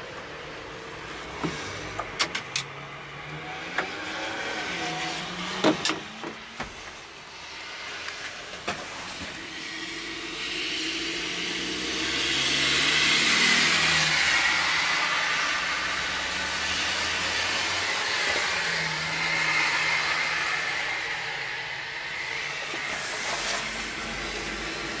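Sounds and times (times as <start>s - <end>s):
vehicles passing on slushy street: 0.0s - 25.0s.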